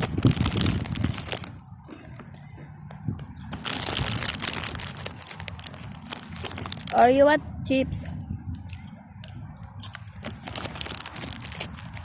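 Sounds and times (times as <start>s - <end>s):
potato chips crunching: 0.0s - 7.0s, 8.7s - 12.0s
chip packet crinkling: 0.0s - 7.1s, 8.7s - 12.0s.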